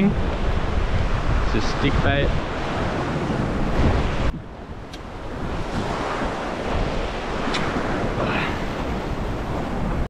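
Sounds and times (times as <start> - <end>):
waves washing against rocks: 0.0 - 10.0
wind buffeting microphone: 0.0 - 10.0.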